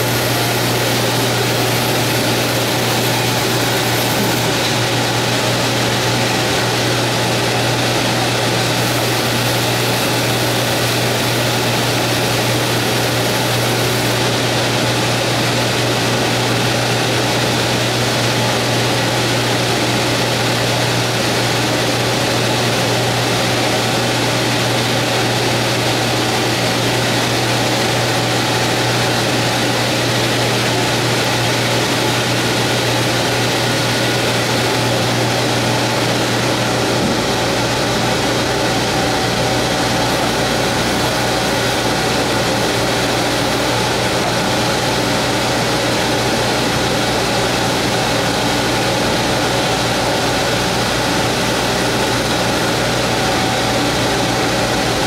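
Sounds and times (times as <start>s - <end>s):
laser cutting machine whirring: 0.0s - 55.0s.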